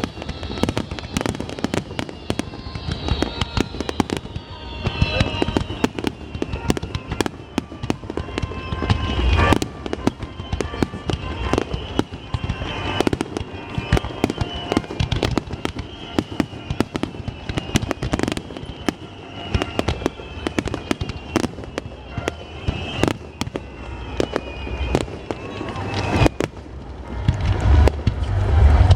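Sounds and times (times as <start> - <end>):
fireworks bangs and crackles: 0.0 - 28.9.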